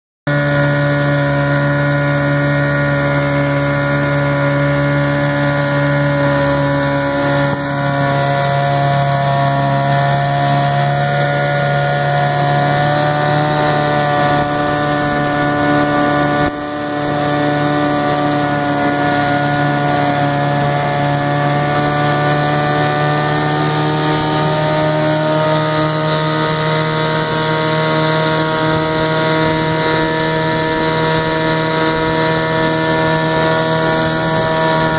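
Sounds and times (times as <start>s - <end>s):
outboard motor running: 0.3s - 34.9s.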